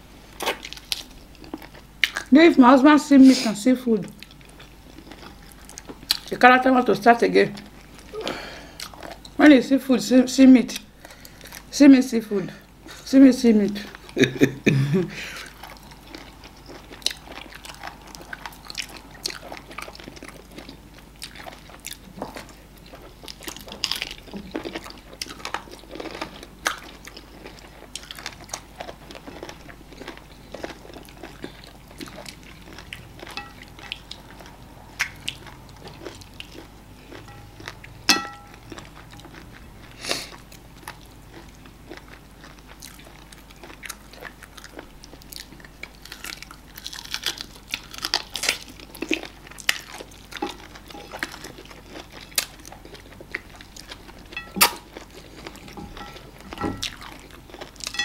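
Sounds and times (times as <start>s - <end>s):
wet chewing and smacking: 0.4s - 2.3s, 4.1s - 6.4s, 15.4s - 58.0s.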